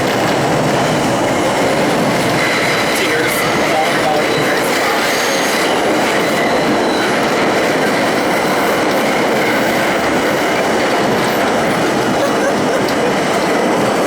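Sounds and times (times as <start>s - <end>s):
subway train wheels rumbling on rail: 0.0s - 14.0s.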